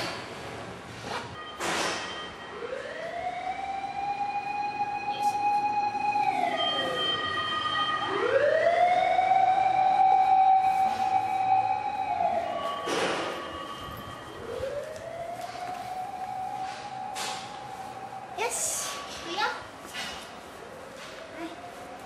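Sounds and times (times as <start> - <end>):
ambulance siren wailing: 1.4 - 19.8, 20.4 - 22.0.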